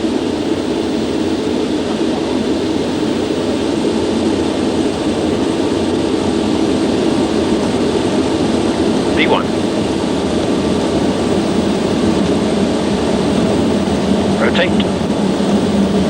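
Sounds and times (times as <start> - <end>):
jet engines at full power: 0.0 - 16.0.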